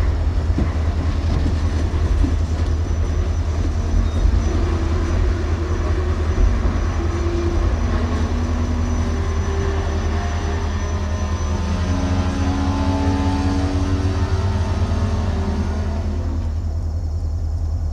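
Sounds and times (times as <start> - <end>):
freight train rumbling: 0.0 - 17.9.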